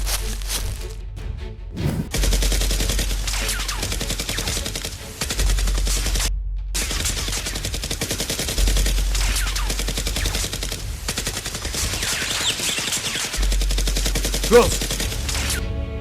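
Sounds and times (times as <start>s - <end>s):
rapid automatic gunfire: 2.2s - 15.2s.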